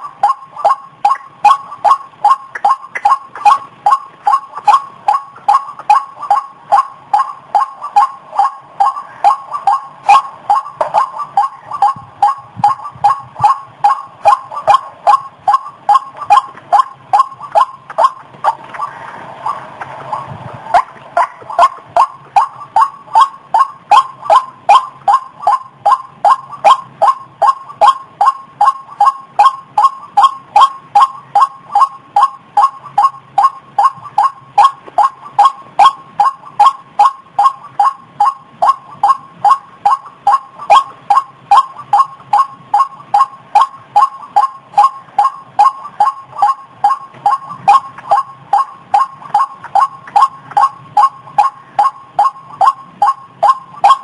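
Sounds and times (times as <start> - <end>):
waterhen calling: 0.0 - 54.0.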